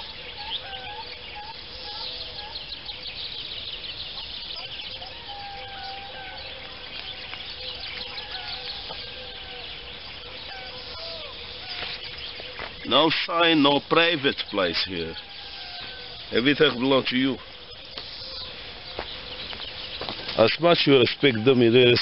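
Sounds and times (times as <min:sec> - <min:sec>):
birds calling in chorus: 0:00.0 - 0:22.0.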